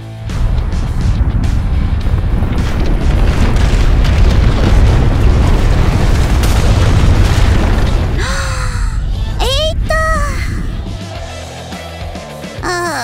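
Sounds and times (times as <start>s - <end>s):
loud explosion blast: 0.2s - 11.0s.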